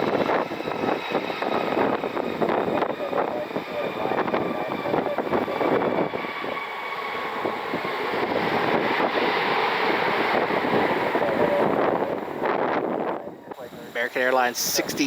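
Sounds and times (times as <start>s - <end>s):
jet engines whining: 0.0s - 15.0s
wind buffeting microphone: 0.0s - 15.0s.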